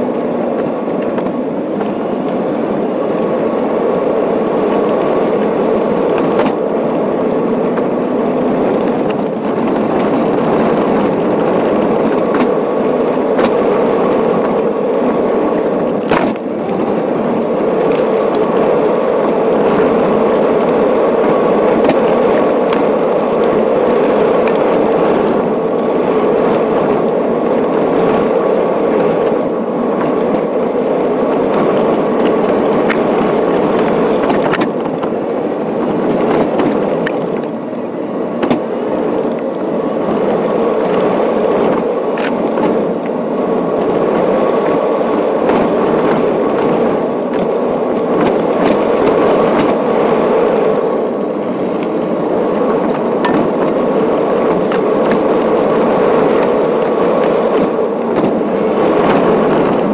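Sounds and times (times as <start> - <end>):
gravel clicking under tyres: 0.0 - 59.9
thin steady whine: 0.0 - 59.9
tyre and road rumble: 0.0 - 59.9.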